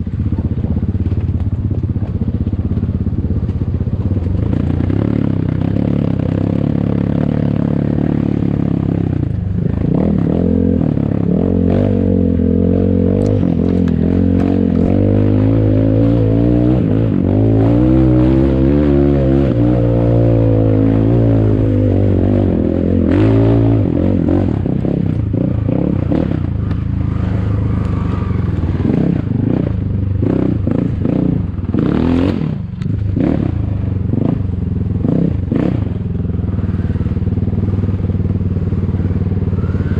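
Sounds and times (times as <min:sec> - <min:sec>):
motorcycle clattering over trail: 0:00.0 - 0:11.3, 0:12.7 - 0:39.9
motorcycle engine revving: 0:00.0 - 0:39.9.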